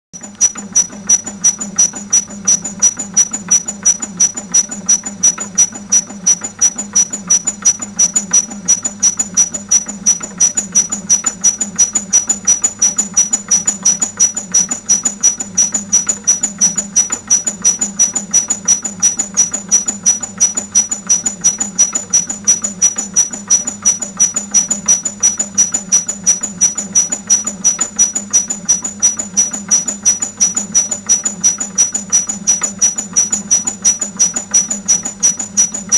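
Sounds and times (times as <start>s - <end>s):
shaker squeaking: 0.4s - 35.9s.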